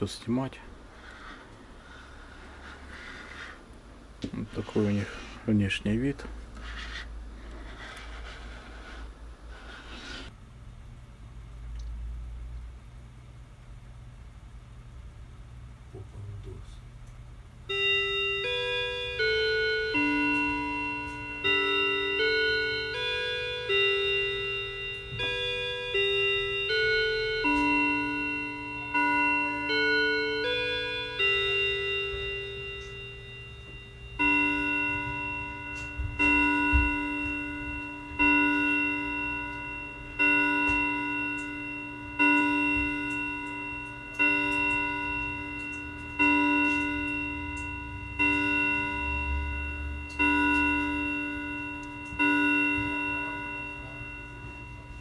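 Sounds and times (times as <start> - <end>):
clock chime melody: 10.3 - 55.0
clock striking the hour: 10.3 - 55.0.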